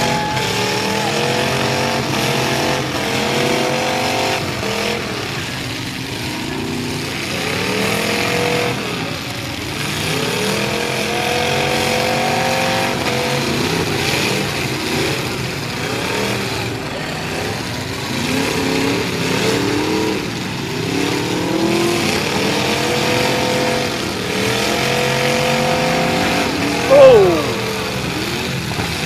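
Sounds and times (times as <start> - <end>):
truck engines revving: 0.0 - 29.0.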